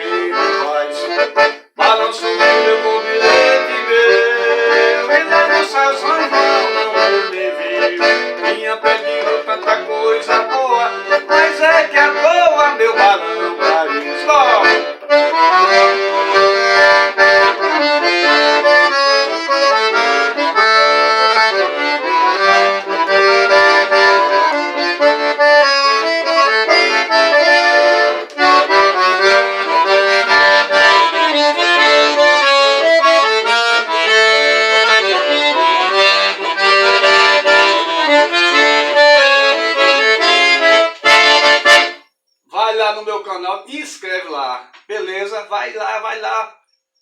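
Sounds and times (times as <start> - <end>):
accordion melody over chords: 0.0 - 42.3.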